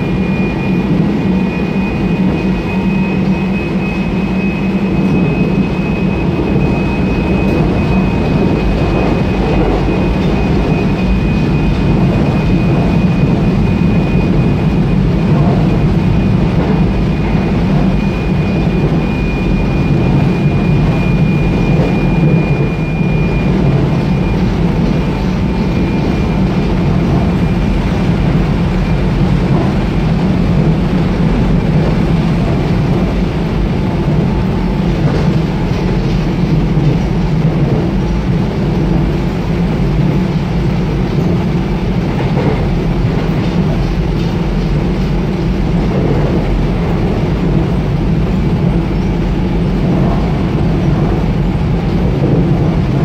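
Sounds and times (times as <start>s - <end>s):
faint high whine: 0.0s - 44.3s
subway wheels rumbling on rail: 0.0s - 53.0s.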